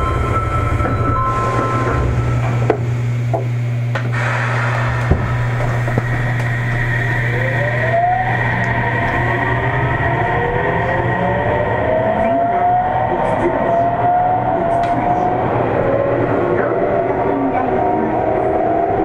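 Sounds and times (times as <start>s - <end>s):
train equipment humming: 0.0s - 19.0s
train inverter whine: 0.0s - 19.0s.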